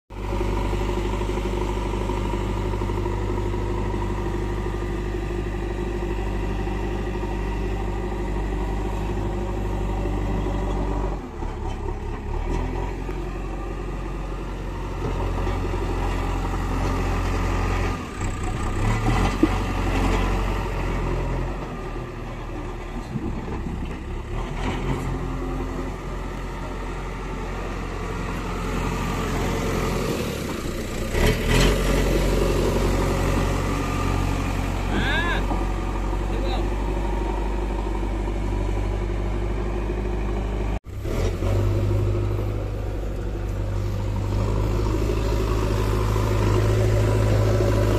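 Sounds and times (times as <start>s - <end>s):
diesel engine running under load: 0.1s - 47.9s.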